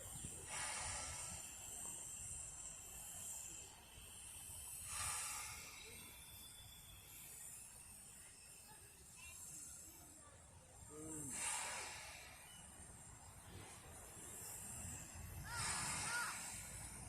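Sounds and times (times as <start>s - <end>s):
steam locomotive hissing steam: 0.0s - 17.0s.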